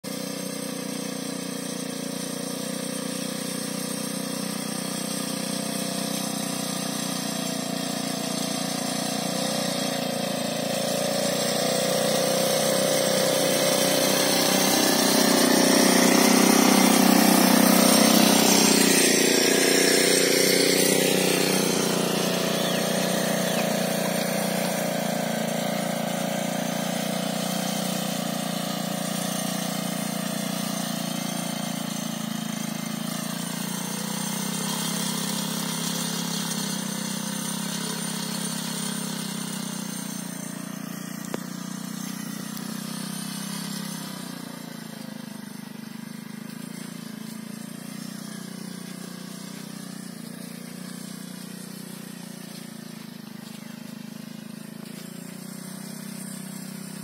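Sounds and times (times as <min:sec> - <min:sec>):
small engine running under load: 0:00.0 - 0:57.0.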